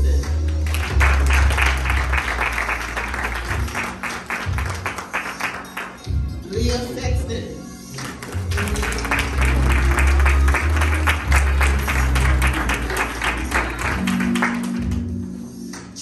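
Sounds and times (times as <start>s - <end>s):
background music: 0.0s - 16.0s
audience applauding: 0.1s - 6.2s, 7.9s - 15.9s.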